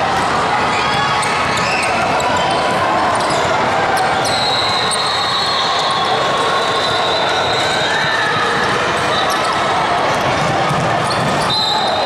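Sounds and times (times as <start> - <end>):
crowd and game noise: 0.0 - 12.0.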